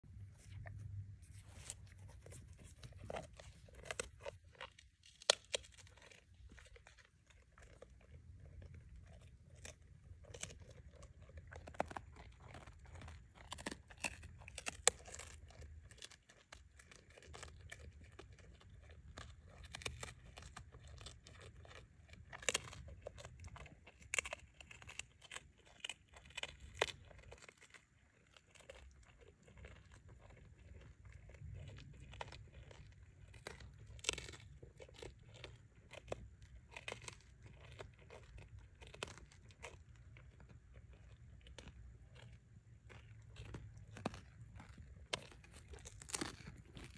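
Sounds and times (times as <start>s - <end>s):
deer chewing crunchy food: 0.0s - 46.9s.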